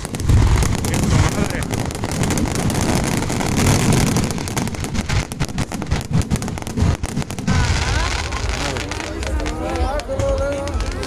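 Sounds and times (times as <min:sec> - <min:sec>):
low rumble: 0:00.0 - 0:09.4
fireworks crackling: 0:00.0 - 0:11.0.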